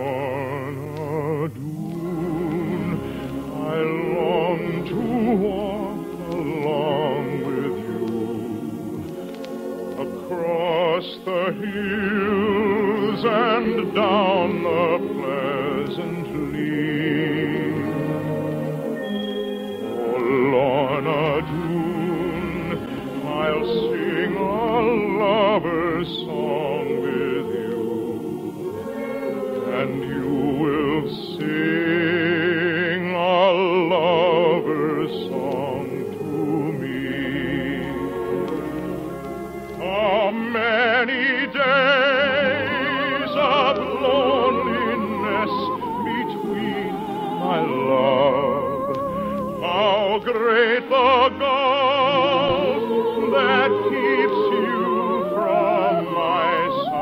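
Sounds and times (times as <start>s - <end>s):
operatic singing with vibrato: 0.0s - 57.0s
orchestral accompaniment: 0.0s - 57.0s.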